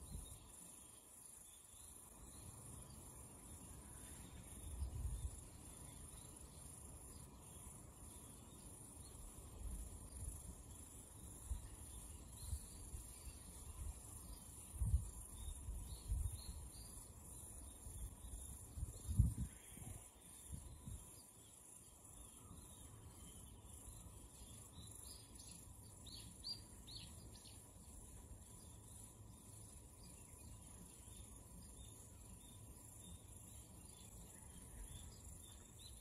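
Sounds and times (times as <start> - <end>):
insect chorus: 0.0 - 36.0.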